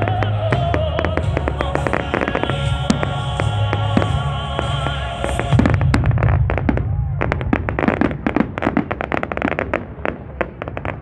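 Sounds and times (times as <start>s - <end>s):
crackling firework bursts: 0.0s - 11.0s
fireworks cracking and banging: 0.0s - 11.0s.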